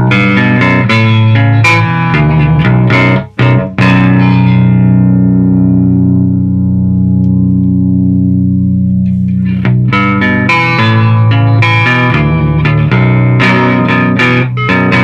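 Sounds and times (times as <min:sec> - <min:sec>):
fuzzed electric guitar chords: 0:00.0 - 0:15.0.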